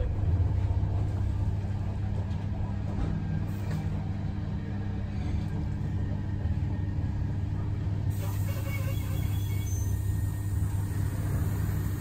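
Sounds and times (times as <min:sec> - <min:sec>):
train rumble and hum inside coach: 0:00.0 - 0:12.0.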